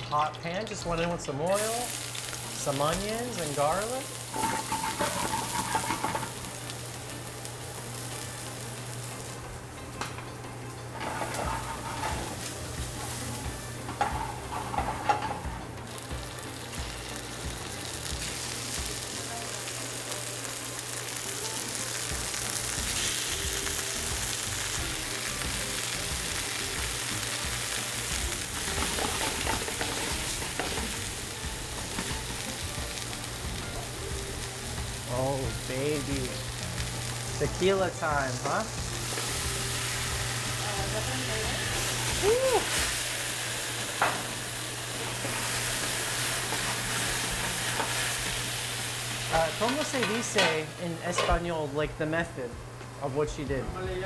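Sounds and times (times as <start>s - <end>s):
onions and garlic sizzling in oil: 1.5s - 51.7s.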